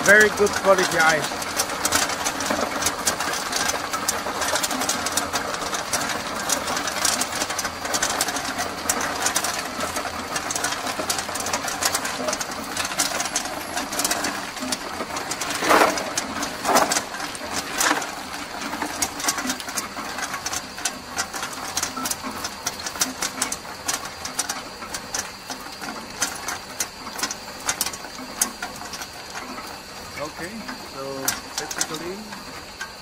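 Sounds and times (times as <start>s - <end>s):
ice cylinders clattering into tub: 0.0s - 33.0s.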